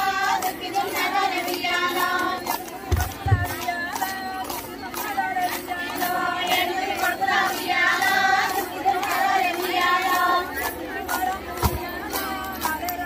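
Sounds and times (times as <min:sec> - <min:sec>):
rhythmic hand clapping: 0:00.0 - 0:13.0
women singing in unison: 0:00.0 - 0:13.0.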